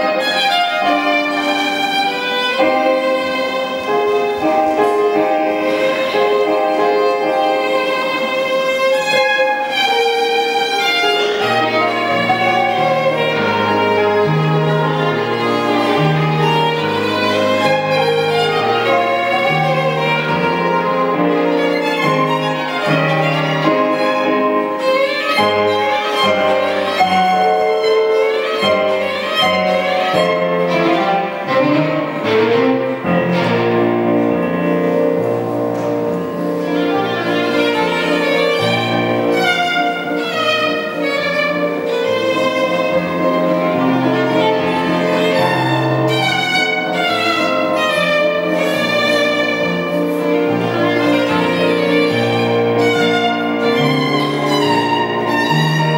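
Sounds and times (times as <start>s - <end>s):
violin melody with vibrato: 0.0s - 55.9s.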